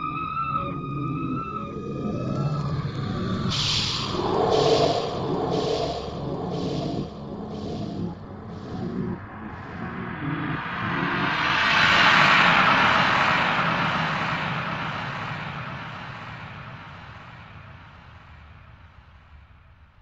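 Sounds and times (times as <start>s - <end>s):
rushing noise: 1.6s - 18.3s.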